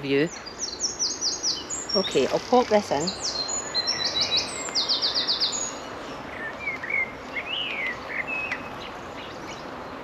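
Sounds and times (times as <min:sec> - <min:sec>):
outdoor background noise: 0:00.0 - 0:10.0
songbird singing: 0:00.0 - 0:10.0.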